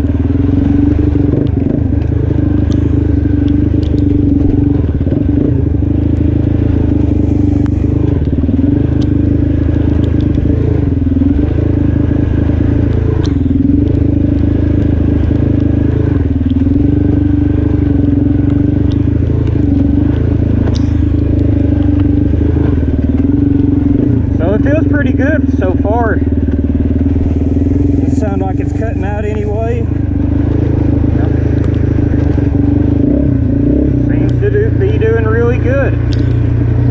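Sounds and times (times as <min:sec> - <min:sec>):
quad bike engine running: 0:00.0 - 0:36.9.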